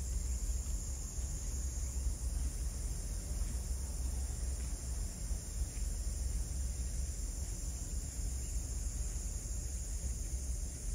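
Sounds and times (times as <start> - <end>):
insects chirring: 0.0 - 10.9.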